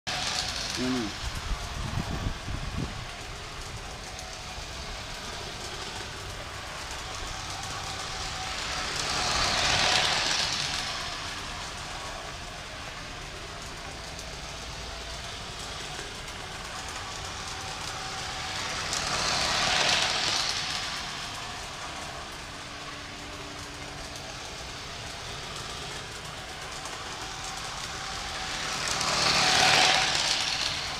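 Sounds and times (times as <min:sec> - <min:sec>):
model steam locomotive passing: 0:00.1 - 0:30.9.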